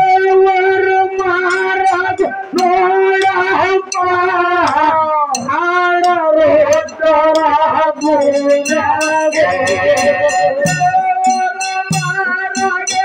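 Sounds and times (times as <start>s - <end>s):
sharp percussion beat: 0.0s - 13.0s.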